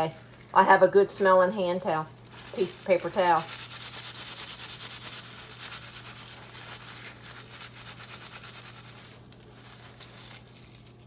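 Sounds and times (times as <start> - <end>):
paper towel scrubbing rustle: 1.9 - 11.0.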